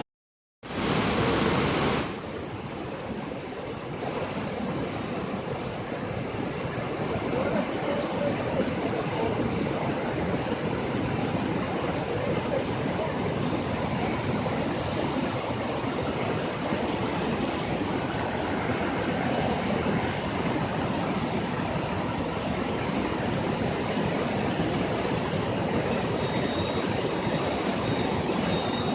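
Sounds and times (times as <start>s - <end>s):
river water rushing: 0.6s - 28.9s.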